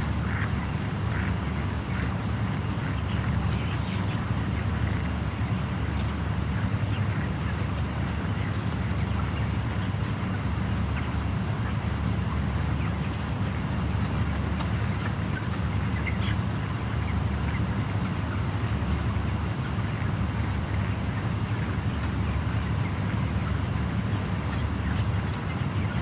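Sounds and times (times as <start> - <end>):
chickens chirping: 0.0 - 26.0
ventilation fans humming: 0.0 - 26.0.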